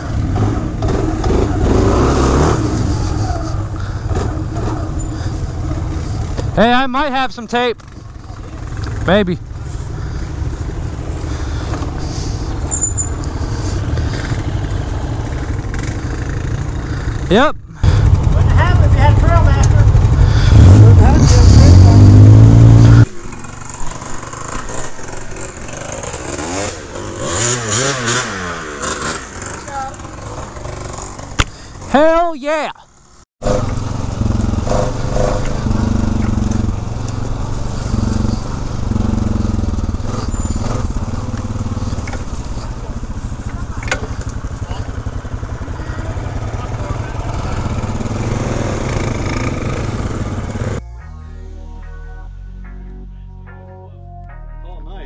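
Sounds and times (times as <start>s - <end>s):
atv engine idling: 0.0s - 6.8s, 7.8s - 31.9s, 32.9s - 50.8s.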